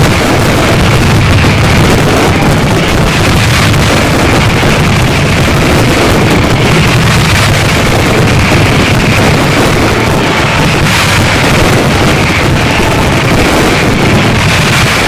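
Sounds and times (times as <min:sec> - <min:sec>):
fireworks explosions: 0:00.0 - 0:15.0.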